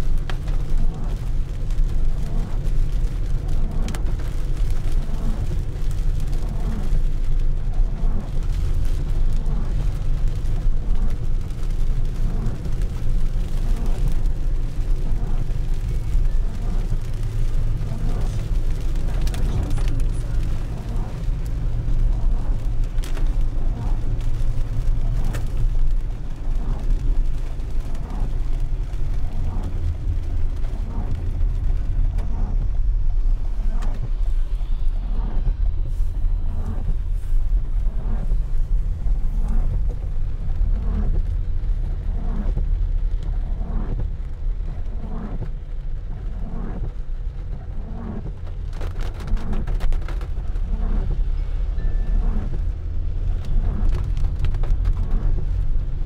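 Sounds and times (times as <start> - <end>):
car engine and tyres on wet road: 0.0 - 56.0.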